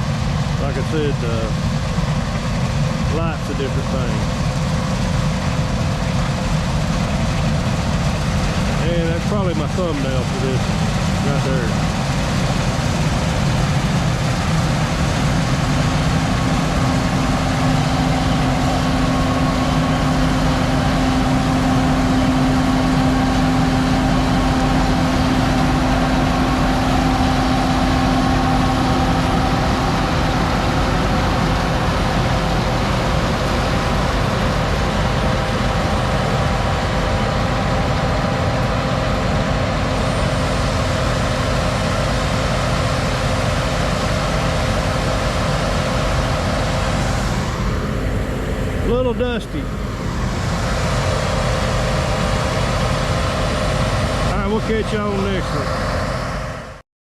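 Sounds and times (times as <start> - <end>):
combine harvester engine drone: 0.0 - 56.8.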